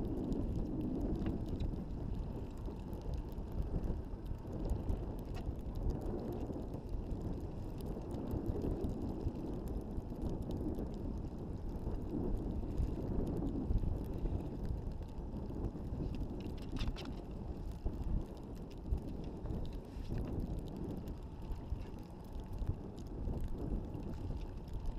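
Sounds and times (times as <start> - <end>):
wind on microphone: 0.0 - 24.9.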